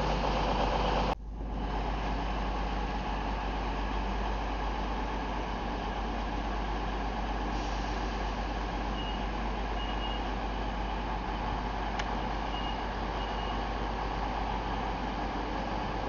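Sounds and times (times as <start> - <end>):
train humming and rumbling: 0.0 - 16.0.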